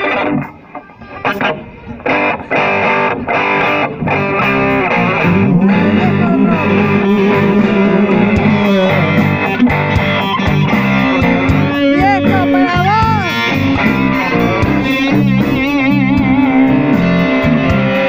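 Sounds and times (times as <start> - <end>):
rock band playing: 0.0 - 18.0
wavering guitar note: 0.0 - 18.0.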